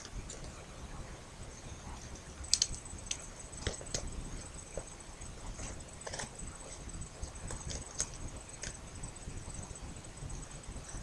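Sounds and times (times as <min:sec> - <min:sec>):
faint high-pitched whine: 0:00.0 - 0:11.0.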